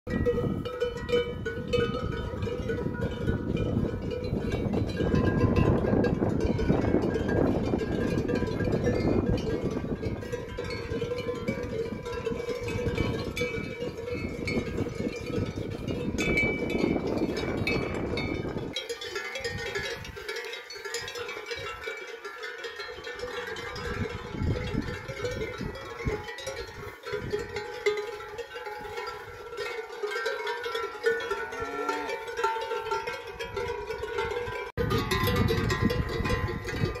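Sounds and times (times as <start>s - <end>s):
cowbells clanking: 0.1s - 37.0s.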